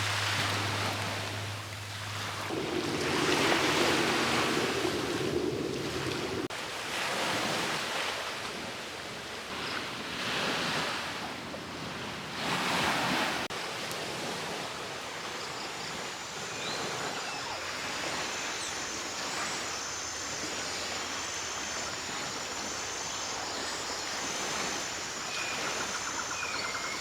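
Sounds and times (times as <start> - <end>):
small waves washing onto shore: 0.0 - 27.0.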